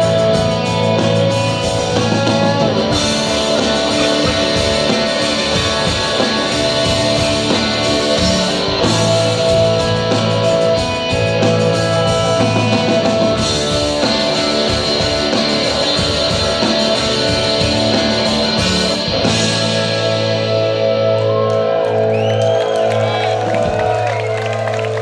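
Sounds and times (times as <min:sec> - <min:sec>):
crowd whistling: 0:00.0 - 0:19.4, 0:21.0 - 0:25.0
bass guitar: 0:00.0 - 0:25.0
drums: 0:00.0 - 0:25.0
electric guitars: 0:00.0 - 0:25.0.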